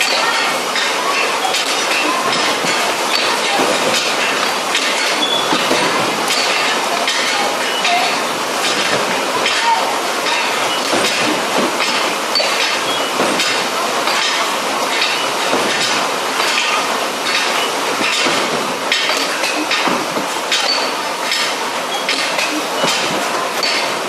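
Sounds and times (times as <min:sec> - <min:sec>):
cutting machine clattering: 0:00.0 - 0:24.0.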